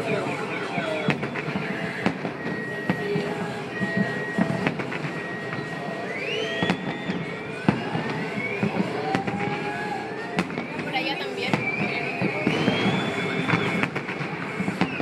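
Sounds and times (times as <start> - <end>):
background music: 0.0 - 15.0
fireworks bangs and pops: 0.0 - 15.0
rising whistling fireworks: 0.0 - 15.0.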